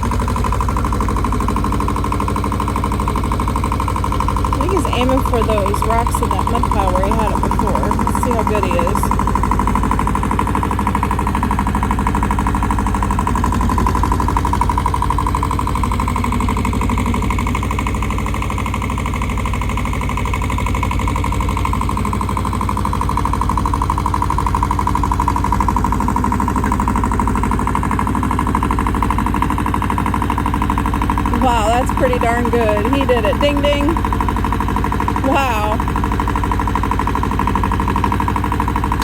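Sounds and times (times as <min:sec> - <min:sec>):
tractor engine pulsing: 0:00.0 - 0:39.0.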